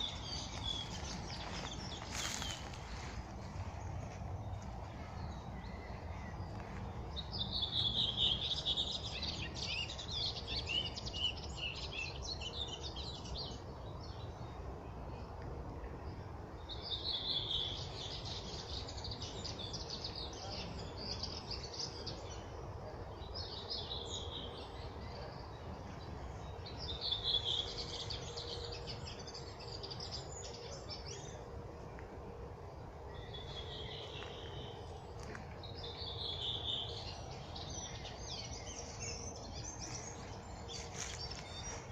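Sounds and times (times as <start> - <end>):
songbird chirping: 0.0 - 15.5, 16.2 - 41.9.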